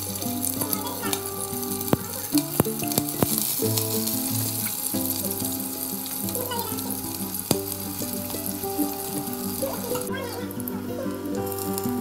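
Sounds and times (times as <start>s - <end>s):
background music with held notes: 0.0s - 12.0s
onions sizzling in hot oil: 0.0s - 12.0s.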